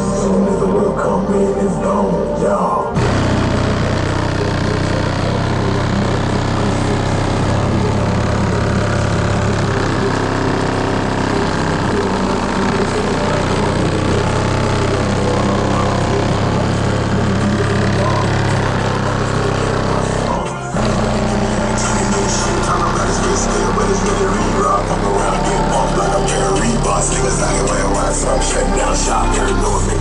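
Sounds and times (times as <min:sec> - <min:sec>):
bass-heavy music from subwoofers: 0:00.0 - 0:30.0.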